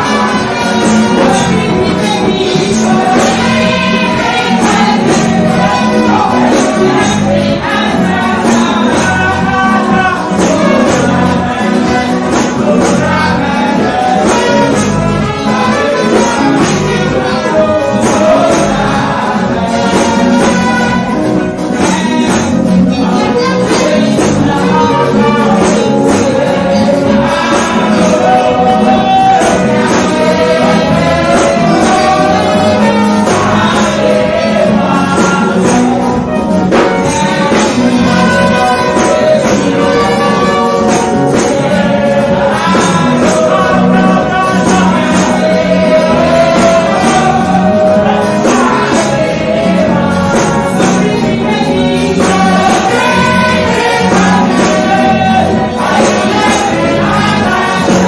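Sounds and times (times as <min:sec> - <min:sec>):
amplified accompaniment with steady beat: 0:00.0 - 0:58.0.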